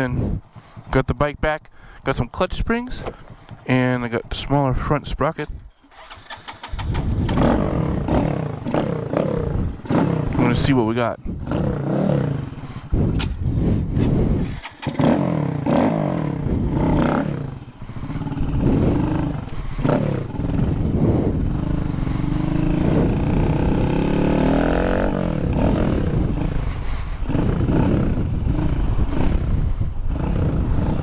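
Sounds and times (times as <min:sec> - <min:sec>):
motorcycle engine revving: 0:05.8 - 0:31.0.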